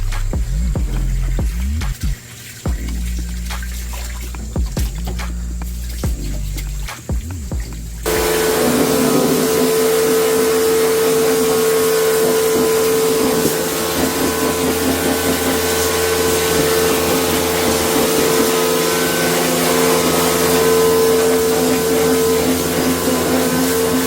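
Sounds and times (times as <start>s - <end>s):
cleaning machine motor hum-whine: 0.0s - 24.0s.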